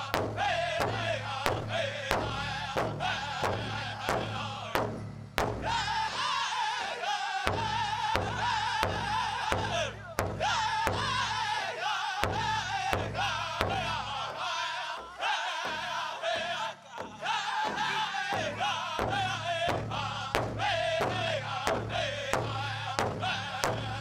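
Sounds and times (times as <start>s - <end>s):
high wavering voices singing: 0.0s - 4.8s, 5.6s - 24.0s
big drum beating: 0.0s - 6.3s, 7.5s - 11.6s, 12.2s - 24.0s.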